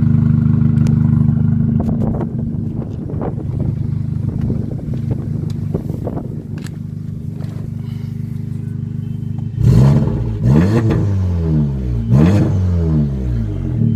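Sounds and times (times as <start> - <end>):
car engine idling and revving: 0.0 - 13.9.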